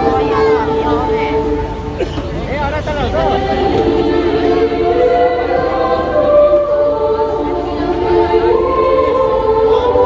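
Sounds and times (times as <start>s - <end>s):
choir singing held chords: 0.0s - 10.0s.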